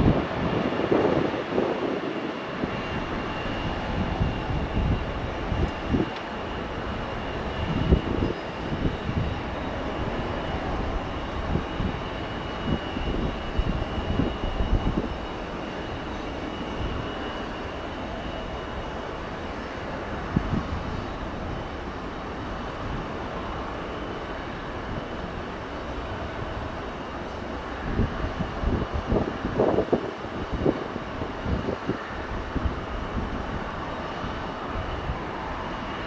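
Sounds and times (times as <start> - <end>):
jet engines rumbling: 0.0 - 36.0
wind buffeting microphone: 0.0 - 36.0.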